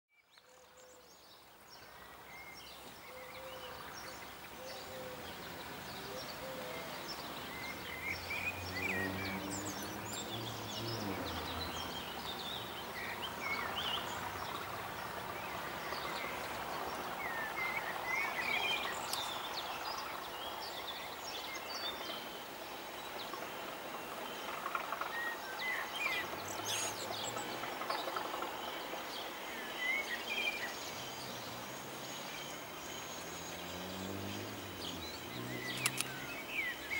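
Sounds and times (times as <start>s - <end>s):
outdoor background hiss: 0.1s - 36.9s
birds singing and chirping: 0.3s - 36.9s.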